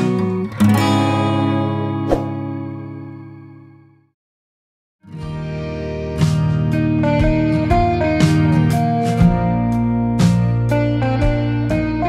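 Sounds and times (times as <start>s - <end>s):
instrumental background music: 0.0s - 3.8s, 5.0s - 12.0s.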